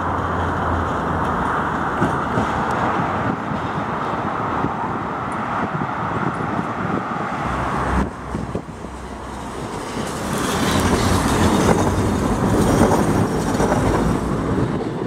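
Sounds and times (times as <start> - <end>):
tram wheels running on rails: 0.0 - 7.0, 8.0 - 15.0.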